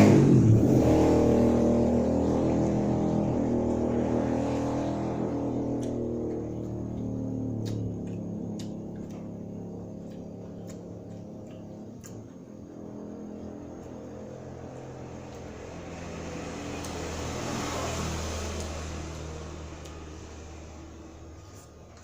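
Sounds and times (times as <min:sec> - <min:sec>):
vehicle passing by: 0:00.0 - 0:22.0.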